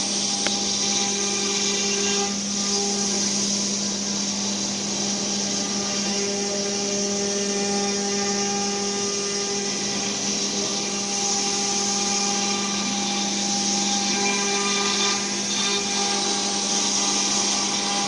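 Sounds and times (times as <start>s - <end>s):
wood router spindle running: 0.0s - 18.0s.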